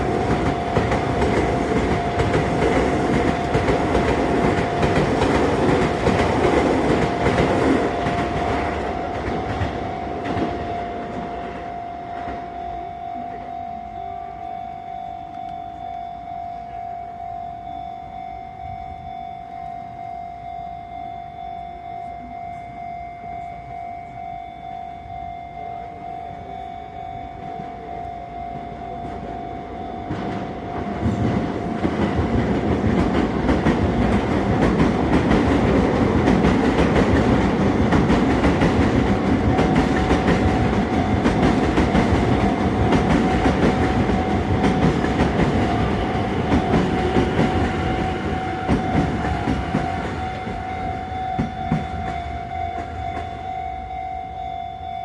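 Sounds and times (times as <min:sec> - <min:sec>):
level crossing warning bell ringing: 0:00.0 - 0:55.0
train passing: 0:00.0 - 0:55.0.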